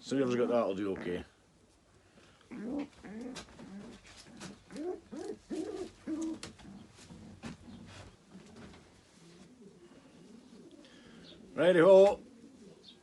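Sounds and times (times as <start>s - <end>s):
pigeons cooing: 2.4s - 13.0s.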